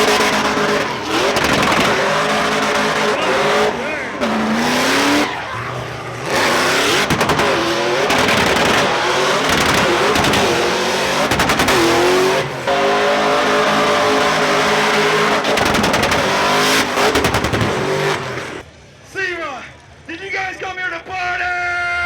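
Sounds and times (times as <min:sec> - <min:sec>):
car engine revving hard: 0:00.0 - 0:18.6
tyres squealing and skidding: 0:00.0 - 0:18.6.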